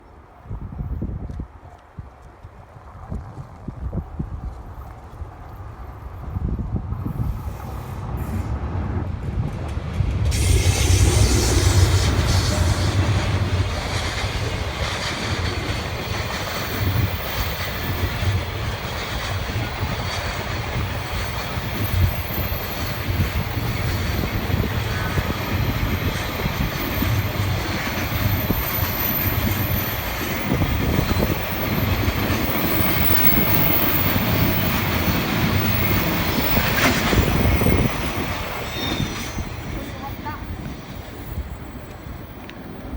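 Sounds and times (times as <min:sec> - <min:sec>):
train wheels rumbling and rattling: 0:03.0 - 0:42.9.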